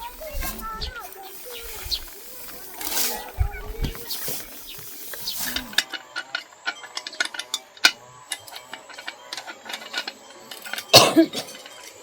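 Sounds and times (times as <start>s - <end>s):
small hard objects clicking together: 0.0s - 12.0s.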